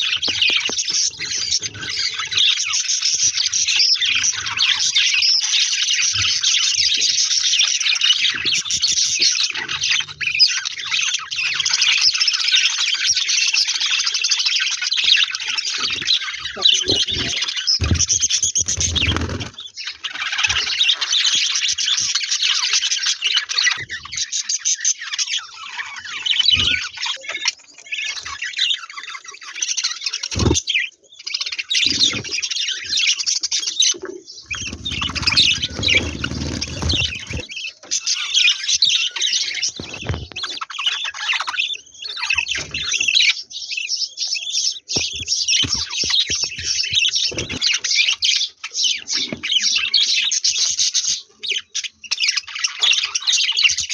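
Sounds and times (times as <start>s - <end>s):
bird chicks chirping: 0.0s - 53.9s.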